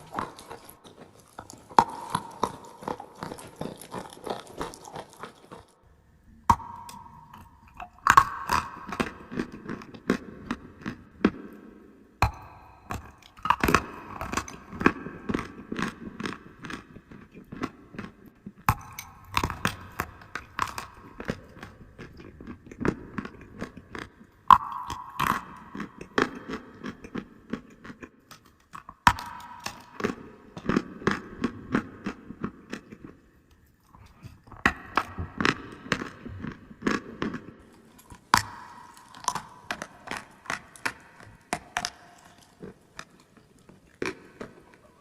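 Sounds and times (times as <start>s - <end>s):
chewing clay crunches: 0.0s - 45.0s.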